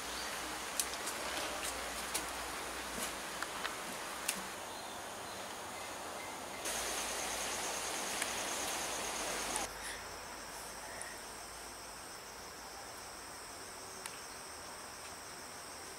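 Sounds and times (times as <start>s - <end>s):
insects trilling: 0.0s - 15.9s
loud steady hiss: 0.0s - 15.9s.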